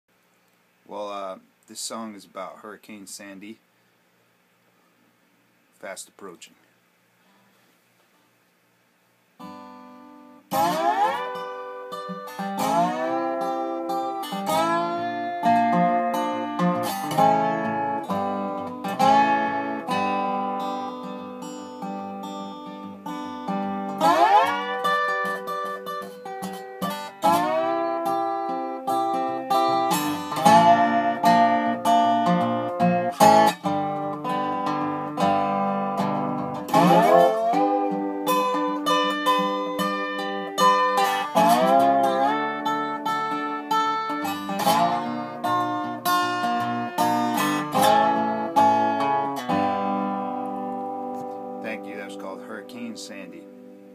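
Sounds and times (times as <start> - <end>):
solo guitar instrumental: 9.4 - 53.9.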